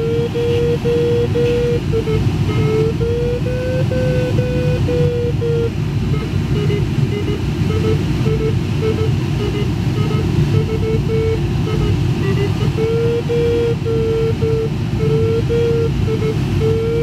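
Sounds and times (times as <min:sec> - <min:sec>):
air rushing past cockpit: 0:00.0 - 0:17.0
variometer beeping: 0:00.0 - 0:17.0.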